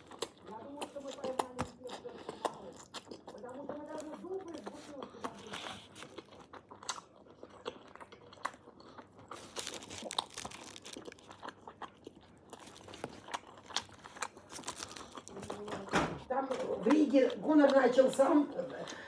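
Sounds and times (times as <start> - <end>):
wet chewing and crunchy bites: 0.0 - 15.9.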